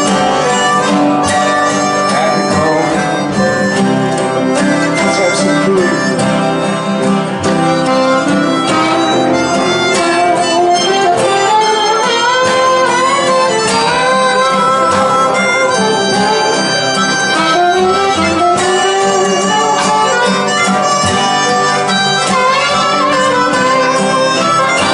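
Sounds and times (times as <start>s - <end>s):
blues harmonica bending notes: 0.0s - 24.9s
strummed acoustic guitar: 0.0s - 24.9s.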